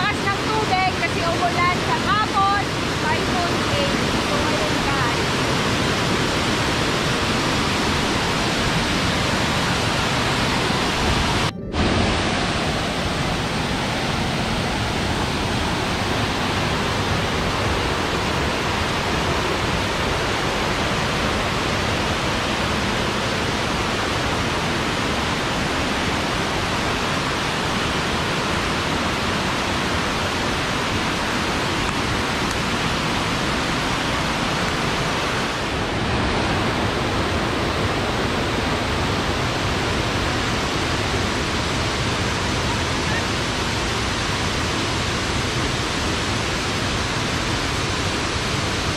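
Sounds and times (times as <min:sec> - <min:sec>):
fast stream: 0:00.0 - 0:48.9
waterfall rushing: 0:00.0 - 0:48.9.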